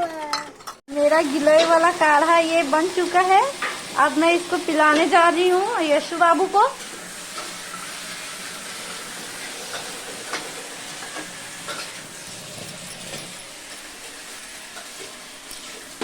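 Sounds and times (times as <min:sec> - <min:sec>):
pan sizzling on stove: 0:00.0 - 0:16.0.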